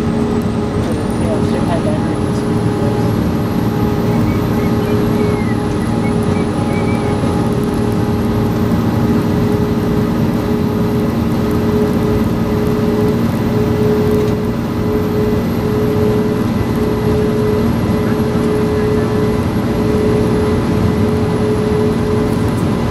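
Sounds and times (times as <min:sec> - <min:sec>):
fire engine driving: 0:00.0 - 0:22.9
siren tone: 0:02.5 - 0:08.2, 0:09.4 - 0:22.4.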